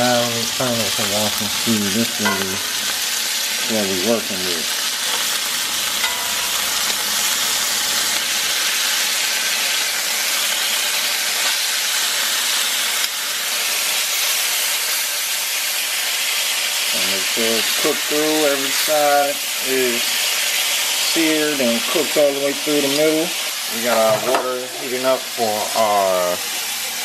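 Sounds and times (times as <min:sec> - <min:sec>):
beef sizzling in hot oil: 0:00.0 - 0:27.0.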